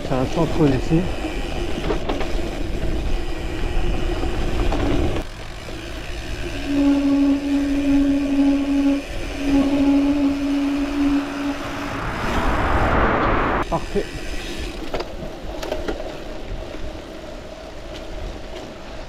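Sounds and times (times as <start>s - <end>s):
bicycle freehub buzzing: 0.7s - 11.9s, 13.7s - 19.0s.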